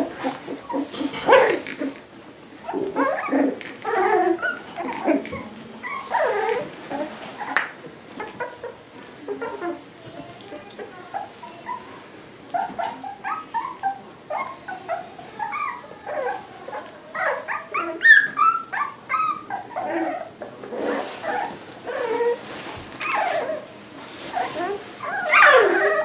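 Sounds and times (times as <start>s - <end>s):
puppies whining and yipping: 0.0s - 2.0s, 2.6s - 9.9s, 10.8s - 23.7s, 24.3s - 26.0s.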